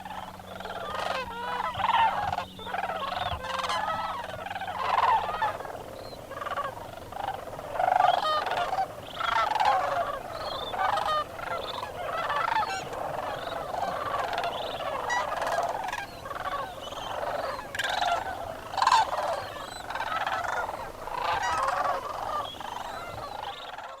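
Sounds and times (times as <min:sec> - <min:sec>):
flock of cranes calling: 0:00.0 - 0:24.0.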